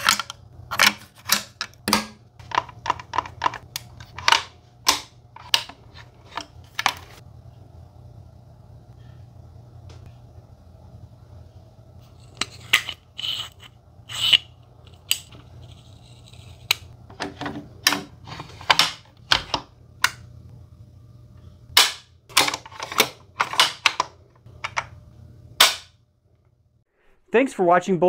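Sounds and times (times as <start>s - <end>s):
steady low hum: 0.0s - 27.3s.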